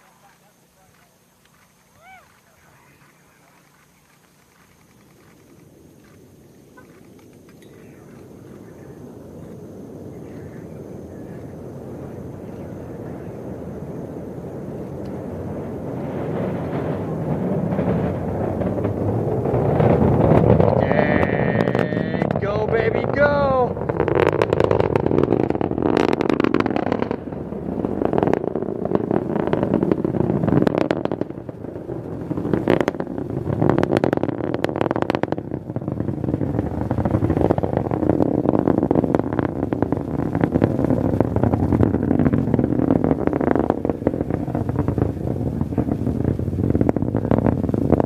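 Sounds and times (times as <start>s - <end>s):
rocket motors rumbling and crackling: 0.0s - 48.0s.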